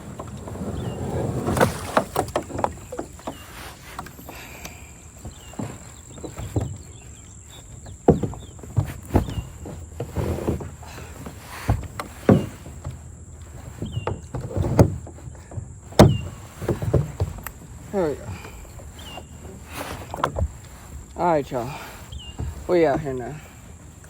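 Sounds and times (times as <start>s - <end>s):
paddle and hull knocks: 0.0s - 24.0s
paddle splashes: 0.0s - 24.0s.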